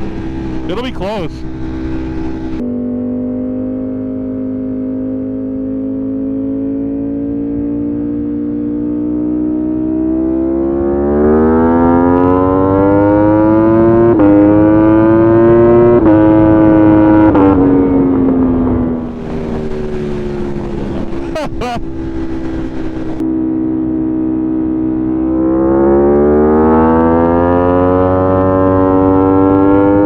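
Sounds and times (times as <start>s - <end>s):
motorcycle engine accelerating: 1.4s - 30.0s.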